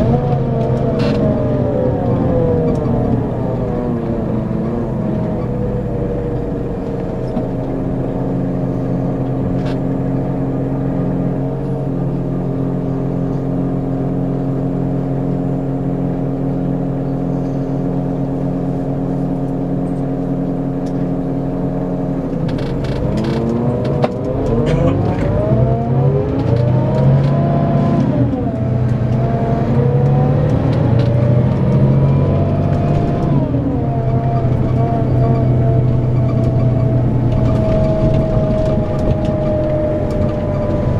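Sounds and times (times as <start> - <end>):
diesel coach engine accelerating: 0.0 - 40.9.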